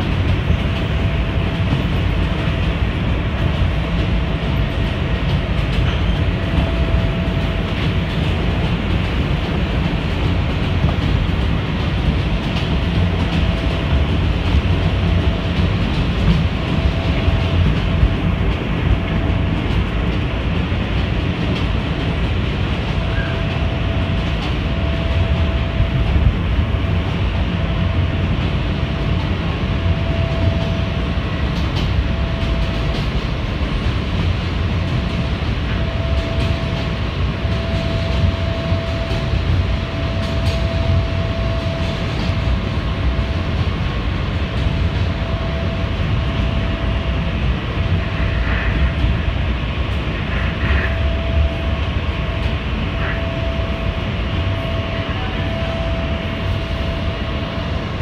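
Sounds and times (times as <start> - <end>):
steady mid-pitched tone: 0.0 - 58.0
subway train rumbling: 0.0 - 58.0.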